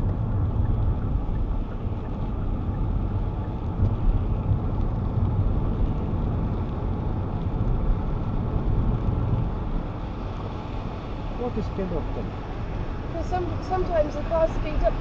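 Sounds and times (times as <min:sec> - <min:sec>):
car driving on wet road: 0:00.0 - 0:15.0
rain: 0:00.0 - 0:15.0.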